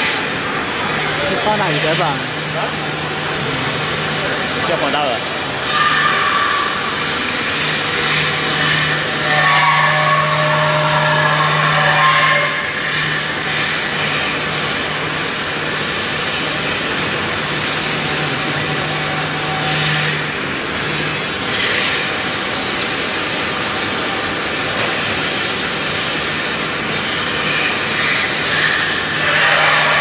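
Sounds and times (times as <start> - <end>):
cutter milling foam: 0.0 - 30.0.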